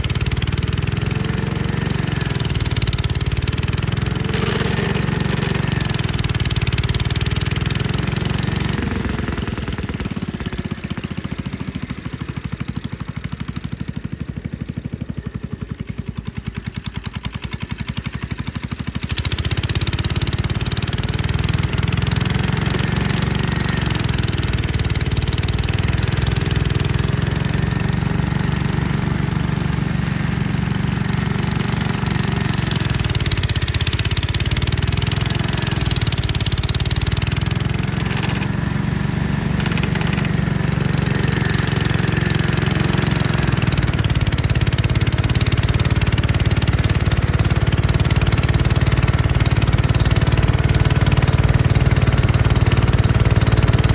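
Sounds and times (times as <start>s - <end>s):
tractor engine with snowblower running: 0.0s - 53.9s.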